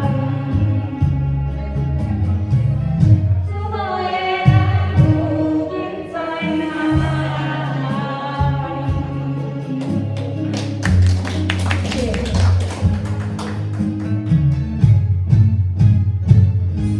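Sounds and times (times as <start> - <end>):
karaoke band backing track: 0.0 - 16.9.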